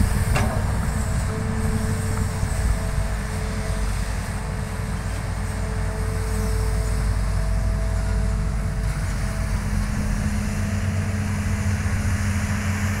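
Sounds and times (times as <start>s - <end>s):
excavator diesel engine under load: 0.0s - 13.0s
faint engine whine: 0.0s - 13.0s.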